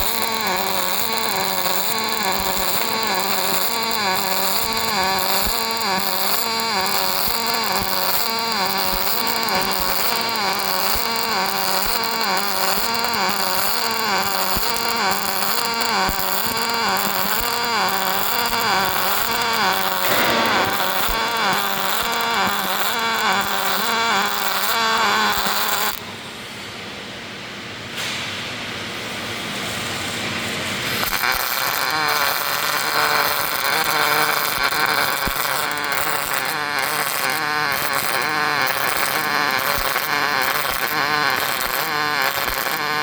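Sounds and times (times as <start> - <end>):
welding machine hum: 0.0 - 26.0, 30.9 - 43.0.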